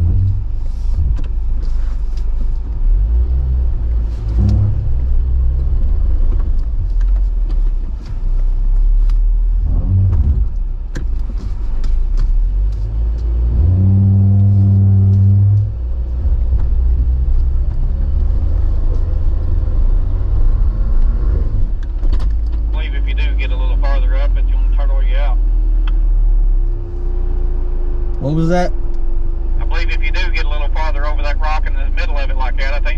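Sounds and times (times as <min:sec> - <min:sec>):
off-road vehicle engine rumbling: 0:00.0 - 0:32.9.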